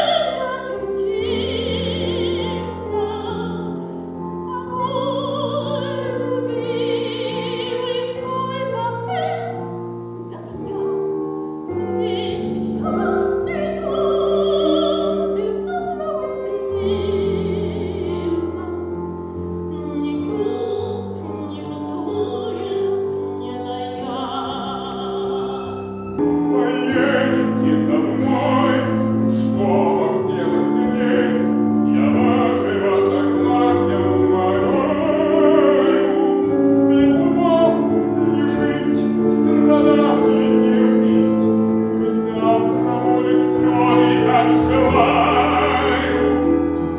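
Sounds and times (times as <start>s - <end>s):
operatic singing with vibrato: 0.0s - 46.9s
piano accompaniment: 0.0s - 46.9s.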